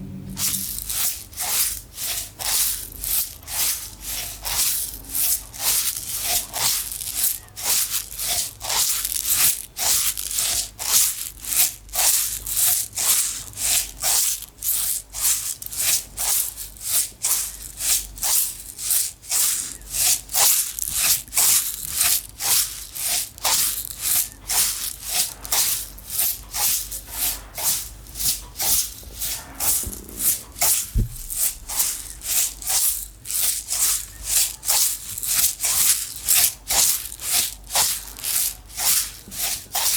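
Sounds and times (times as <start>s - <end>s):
container of dry seeds rattling: 0.4s - 39.9s.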